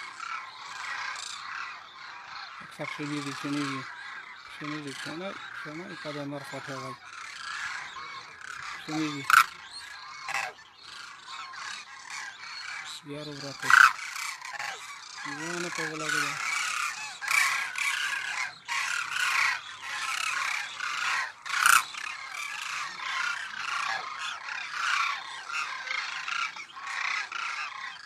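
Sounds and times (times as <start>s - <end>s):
cranes calling: 0.0s - 28.0s.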